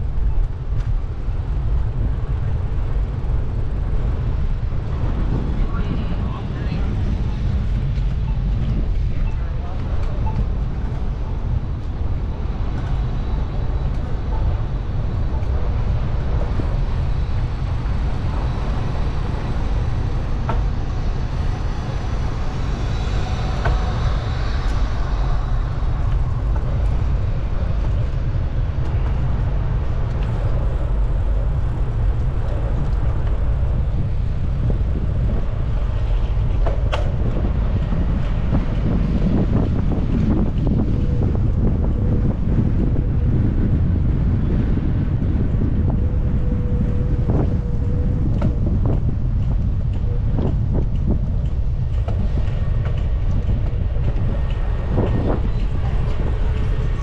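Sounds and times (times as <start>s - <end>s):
road and traffic noise: 0.0s - 57.0s
wind rumble on microphone: 0.0s - 57.0s.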